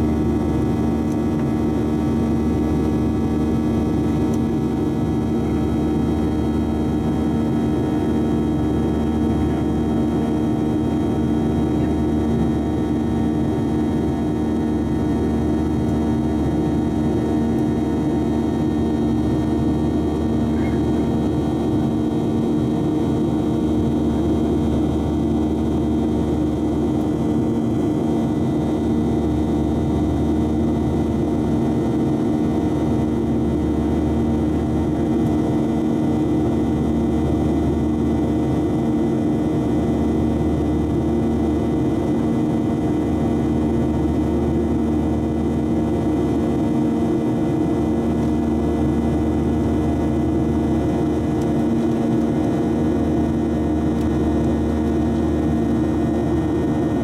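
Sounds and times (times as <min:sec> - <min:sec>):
aircraft cabin drone: 0:00.0 - 0:57.0.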